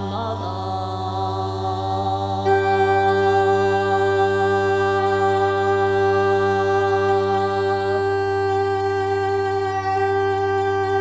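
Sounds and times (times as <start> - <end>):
droning music of held tones: 0.0 - 11.0.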